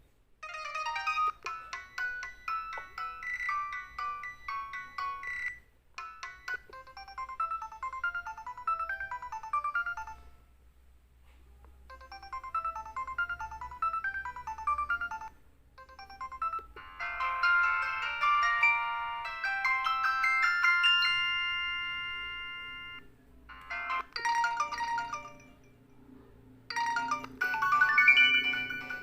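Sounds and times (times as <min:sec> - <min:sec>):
polyphonic phone ringtone melodies: 0:00.4 - 0:10.4, 0:11.9 - 0:26.1, 0:26.7 - 0:29.0.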